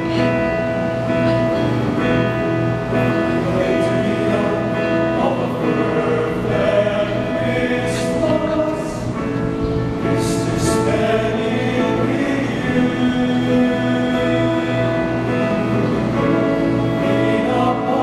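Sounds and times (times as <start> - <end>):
male choir singing: 2.0 - 18.0.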